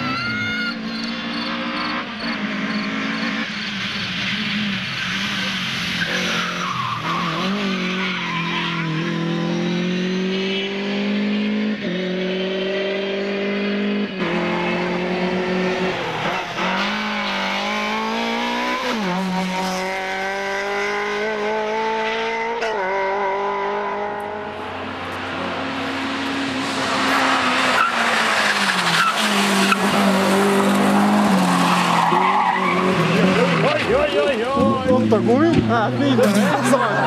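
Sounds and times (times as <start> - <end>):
rally car engine accelerating: 0.0 - 37.0.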